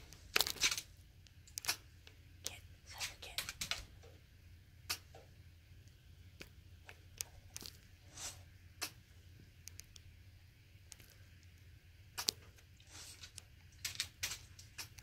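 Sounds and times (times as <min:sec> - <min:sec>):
crackles and rustles: 0:00.0 - 0:04.2, 0:04.9 - 0:10.1, 0:10.8 - 0:15.0
low steady hum: 0:00.0 - 0:15.0.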